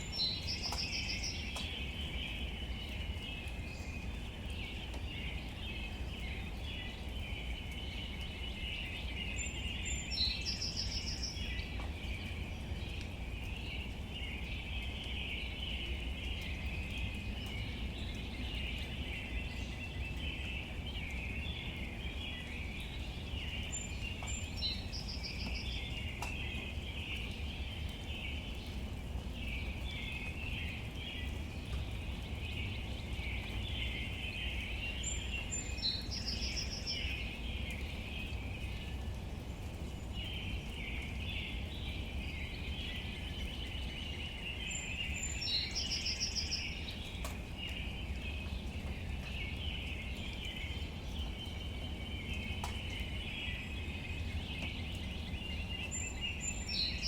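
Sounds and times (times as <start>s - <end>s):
bird singing a trill: 0.0s - 28.8s, 29.4s - 39.0s, 40.0s - 57.0s
rain falling on leaves: 0.0s - 57.0s.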